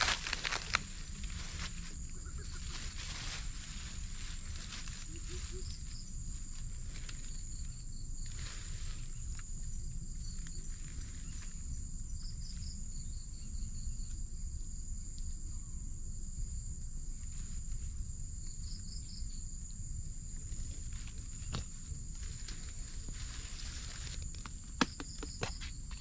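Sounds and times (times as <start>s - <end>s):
rustle in vegetation: 0.0s - 15.4s, 16.6s - 26.0s
steady low rumble: 0.0s - 24.8s
crickets trilling: 0.0s - 26.0s.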